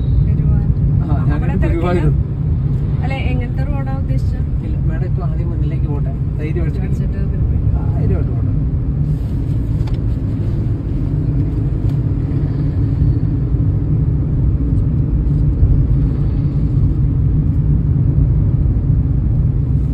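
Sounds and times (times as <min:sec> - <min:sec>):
car engine and road noise: 0:00.0 - 0:19.9.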